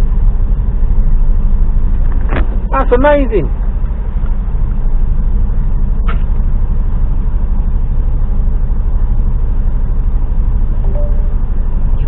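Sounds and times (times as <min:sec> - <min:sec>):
diesel engine throbbing: 0:00.0 - 0:12.0.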